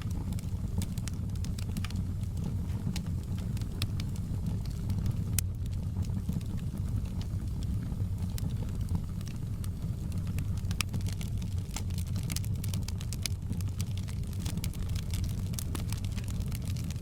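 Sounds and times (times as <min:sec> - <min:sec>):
fire pops and snaps: 0:00.0 - 0:17.0
low rumble of flames: 0:00.0 - 0:17.0.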